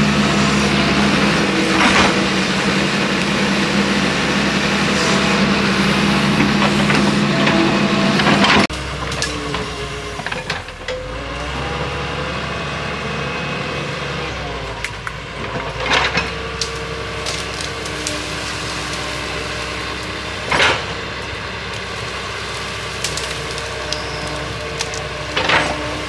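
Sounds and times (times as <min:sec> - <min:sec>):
excavator engine running: 0:00.0 - 0:26.0
hydraulic whine: 0:00.0 - 0:26.0.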